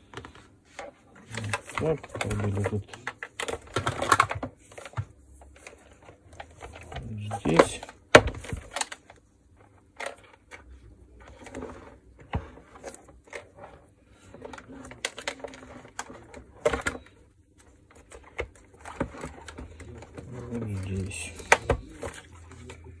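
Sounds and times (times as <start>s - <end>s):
handling clicks and rustles: 0.0s - 23.0s.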